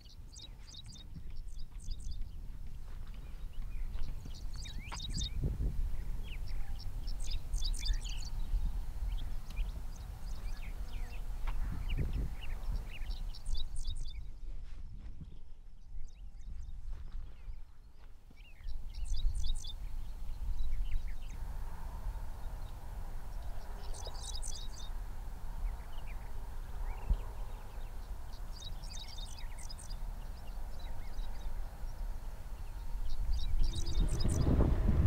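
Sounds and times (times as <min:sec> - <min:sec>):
songbird chirping: 0:00.0 - 0:35.0
wind rumble on microphone: 0:00.0 - 0:35.0.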